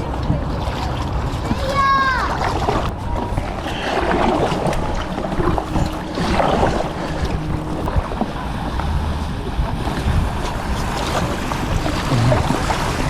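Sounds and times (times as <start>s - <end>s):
kayak paddle splashing: 0.0s - 13.0s
wind rumbling on microphone: 0.0s - 13.0s.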